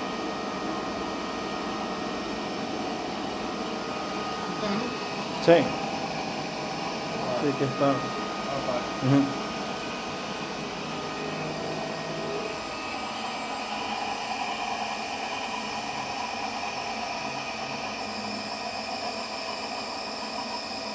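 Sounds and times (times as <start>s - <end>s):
electric motor whirring and whining: 0.0s - 20.9s.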